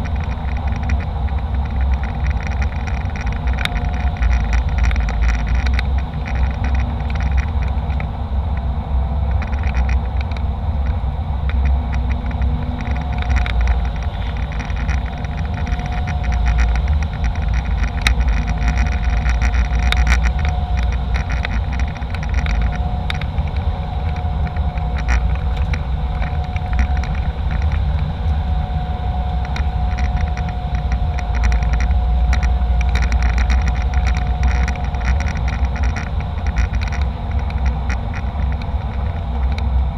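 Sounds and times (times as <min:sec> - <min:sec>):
light rattles: 0:00.0 - 0:39.8
engine and airflow rumble: 0:00.0 - 0:39.9
faint steady whine: 0:00.0 - 0:39.9.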